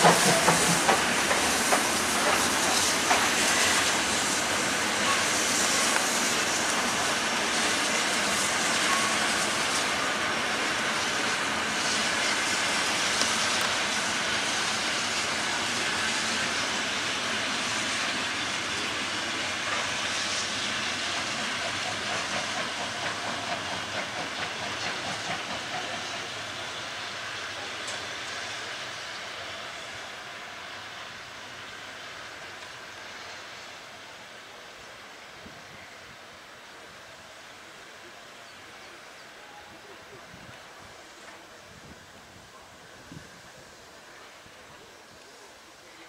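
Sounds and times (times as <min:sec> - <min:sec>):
steam hissing: 0:00.0 - 0:46.0
steam locomotive pulling away: 0:00.0 - 0:46.0
train running noise: 0:00.0 - 0:46.0.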